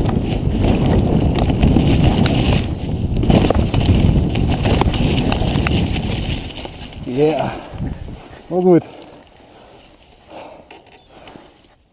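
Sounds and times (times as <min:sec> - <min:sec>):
mountain bike rattling on dirt trail: 0:00.0 - 0:10.3
wind on microphone: 0:00.0 - 0:11.9.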